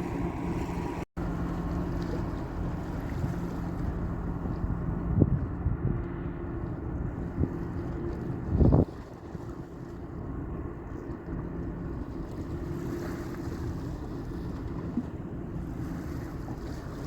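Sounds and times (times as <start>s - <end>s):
ship engines droning: 0.0s - 17.0s
wind on microphone: 0.0s - 17.0s.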